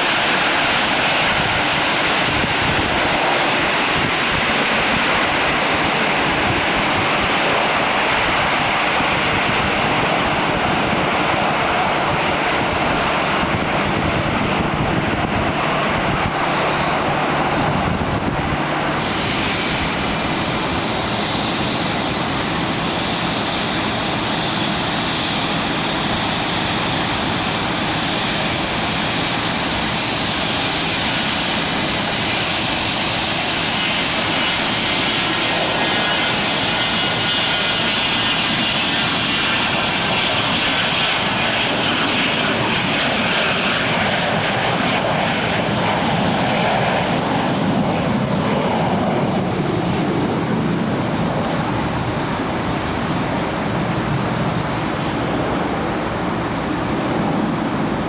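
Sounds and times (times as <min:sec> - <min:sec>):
aircraft engines whining: 0:00.0 - 0:58.0.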